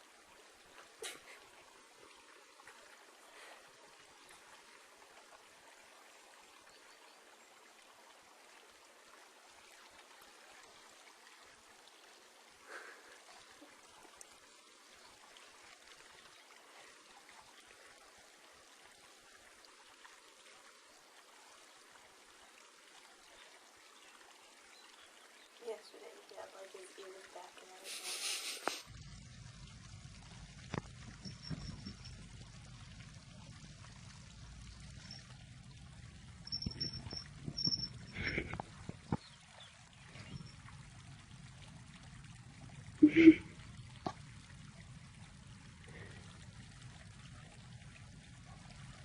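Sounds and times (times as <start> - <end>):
faint steady hiss: 0.0 - 49.0.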